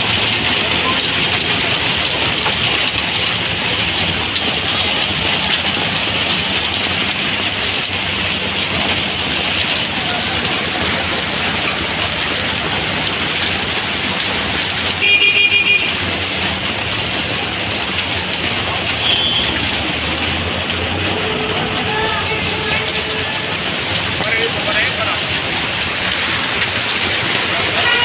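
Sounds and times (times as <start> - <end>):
heavy rain on street and canvas roof: 0.0 - 28.0
vehicle engines running: 0.0 - 28.0.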